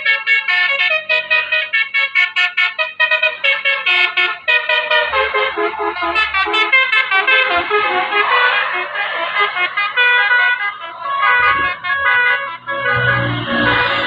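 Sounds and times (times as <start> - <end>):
musical air horn playing a tune: 0.0 - 14.0.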